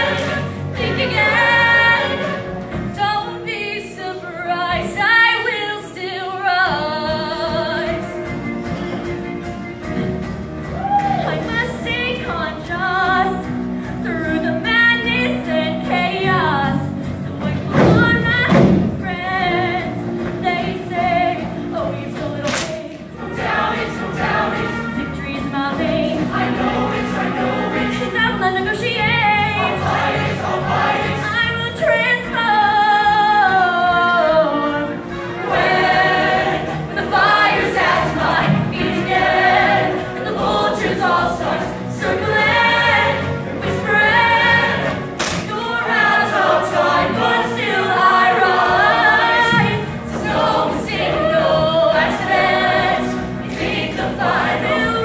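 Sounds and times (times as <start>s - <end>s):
choir singing: 0.0s - 3.5s, 14.5s - 55.0s.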